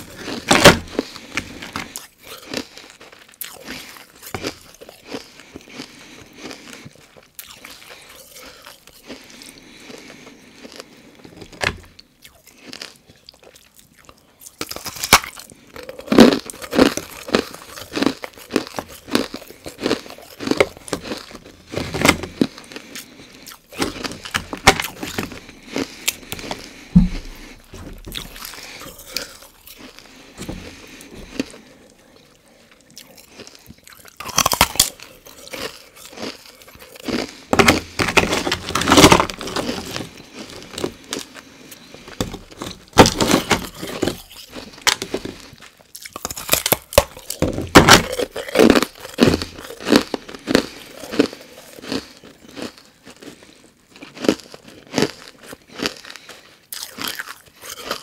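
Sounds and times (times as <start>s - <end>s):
ice crunching and chewing: 0.0s - 58.0s.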